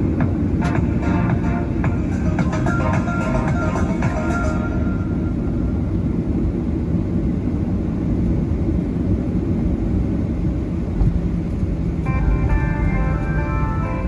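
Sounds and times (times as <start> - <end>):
low rumble inside airplane cabin: 0.0 - 14.0.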